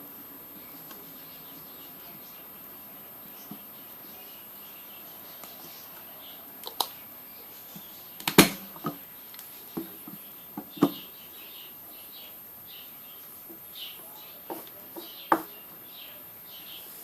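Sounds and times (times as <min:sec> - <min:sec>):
faint bird chirps: 0:00.5 - 0:08.2, 0:08.8 - 0:17.0.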